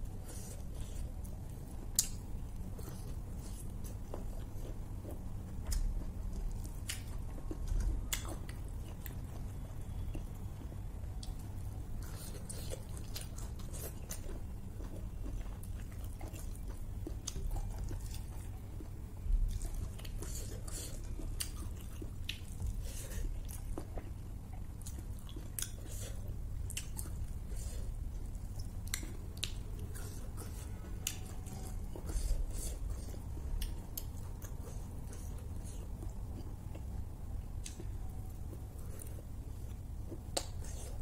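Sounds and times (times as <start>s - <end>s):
person chewing: 0.0s - 41.0s.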